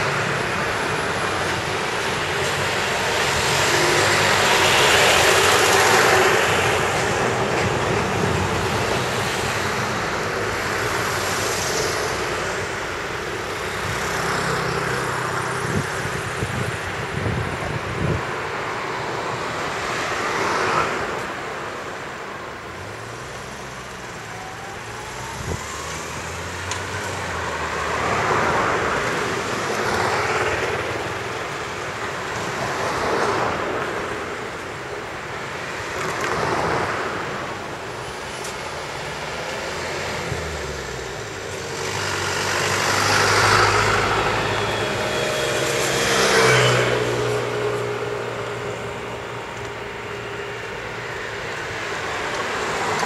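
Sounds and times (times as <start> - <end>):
low hum of engines: 0.0 - 53.0
vehicles passing: 0.0 - 53.0.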